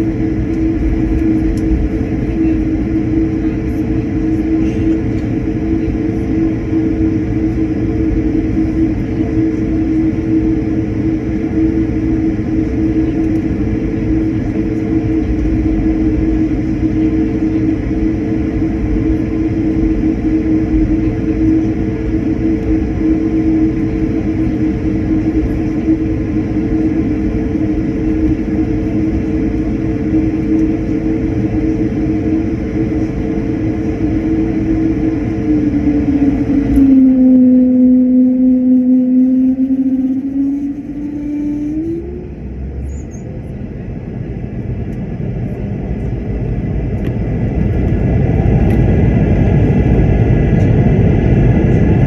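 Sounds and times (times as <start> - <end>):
airliner engine rumble: 0.0 - 52.0
constant hum: 0.0 - 52.0.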